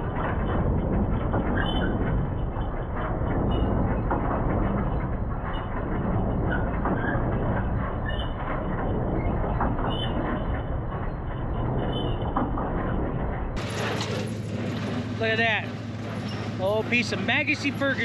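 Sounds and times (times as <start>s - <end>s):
body and load rattling: 0.0s - 18.0s
pickup truck rumbling: 0.0s - 18.0s.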